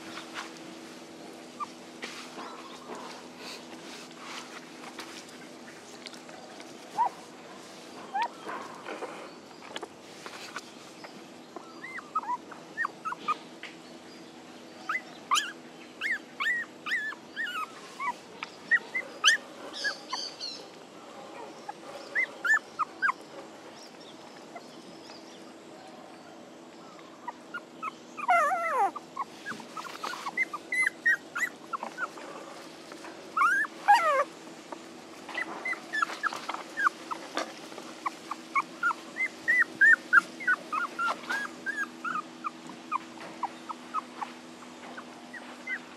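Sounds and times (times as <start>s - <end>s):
puppies whimpering and squealing: 1.5s - 4.7s, 6.5s - 9.5s, 10.4s - 13.8s, 14.7s - 20.6s, 21.5s - 25.3s, 26.9s - 45.9s.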